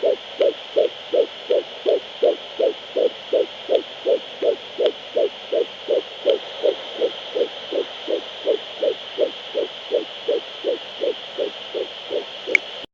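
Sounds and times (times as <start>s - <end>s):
fetal heartbeat pulses: 0.0s - 12.3s
steady doppler hiss: 0.0s - 12.9s.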